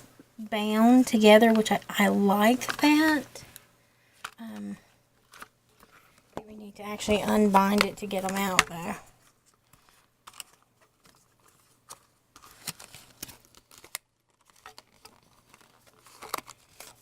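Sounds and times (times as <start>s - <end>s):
cables crinkling and rustling: 0.9s - 17.0s.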